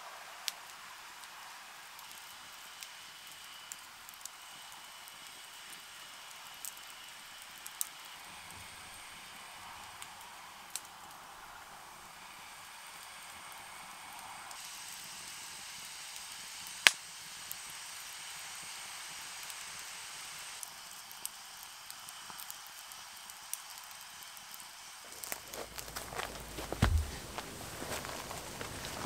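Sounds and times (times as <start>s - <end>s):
campfire hissing and crackling: 0.0s - 29.0s.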